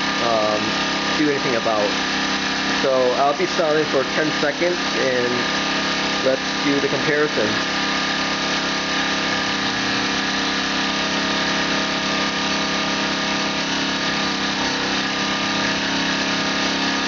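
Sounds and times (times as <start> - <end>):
small generator engine droning: 0.0 - 17.0.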